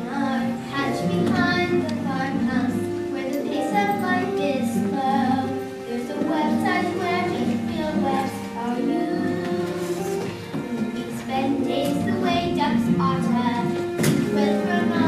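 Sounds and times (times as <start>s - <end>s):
children singing: 0.0s - 15.0s
instrumental accompaniment: 0.0s - 15.0s.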